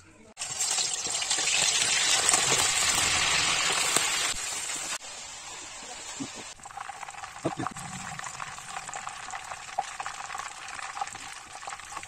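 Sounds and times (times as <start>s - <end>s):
chicken sizzling in hot oil: 0.4s - 12.0s.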